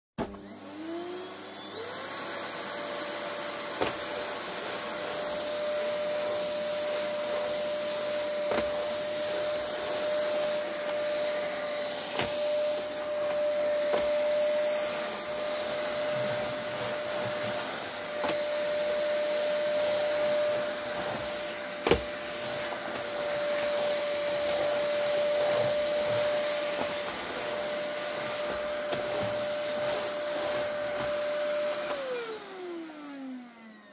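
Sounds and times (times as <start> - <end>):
vacuum cleaner motor whine: 0.2 - 33.9.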